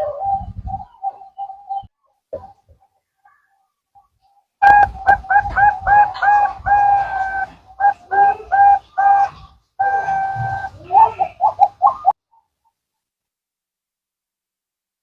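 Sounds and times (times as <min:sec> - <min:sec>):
dove cooing: 0:00.0 - 0:12.8.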